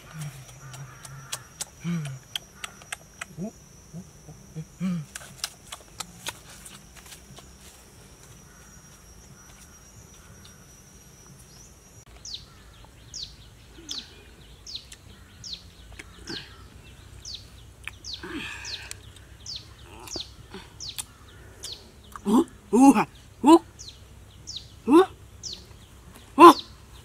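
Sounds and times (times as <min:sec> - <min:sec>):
high insect whine: 0:00.0 - 0:27.0
rustle: 0:00.0 - 0:27.0
small bird chirping: 0:00.0 - 0:27.0.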